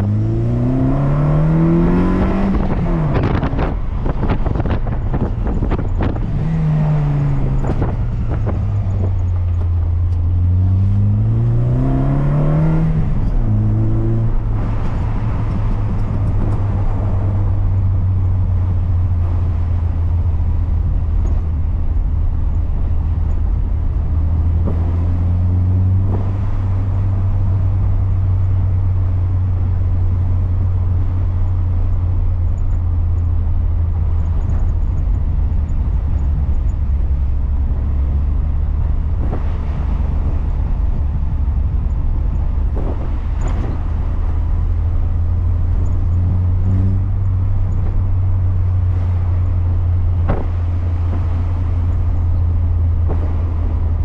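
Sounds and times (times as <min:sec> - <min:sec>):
car engine droning: 0:00.0 - 0:54.0
tyre and road noise: 0:00.0 - 0:54.0.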